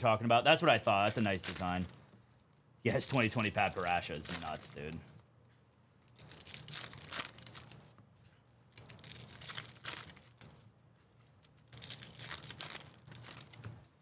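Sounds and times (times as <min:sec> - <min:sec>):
wrappers crinkling and tearing: 0:00.5 - 0:05.2, 0:06.0 - 0:14.0.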